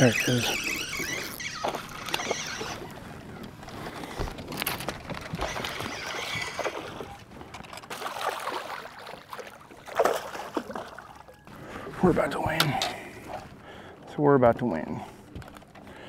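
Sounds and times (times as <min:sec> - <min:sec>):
water splashing and sloshing: 0:00.0 - 0:14.1.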